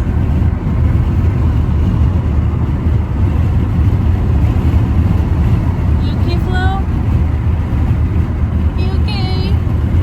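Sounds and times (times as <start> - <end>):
loud low-pitched rumbling: 0.0 - 10.0.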